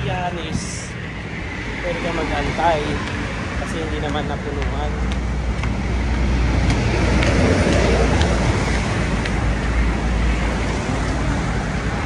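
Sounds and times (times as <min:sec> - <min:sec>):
heavy highway traffic rumble: 0:00.0 - 0:12.0.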